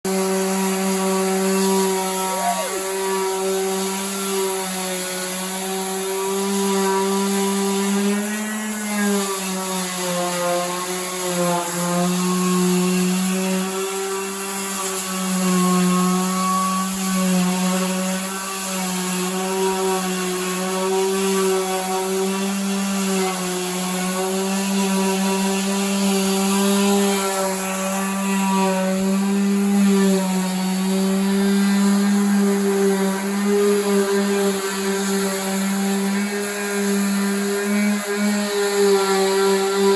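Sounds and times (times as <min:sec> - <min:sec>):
power sander running: 0:00.0 - 0:39.9.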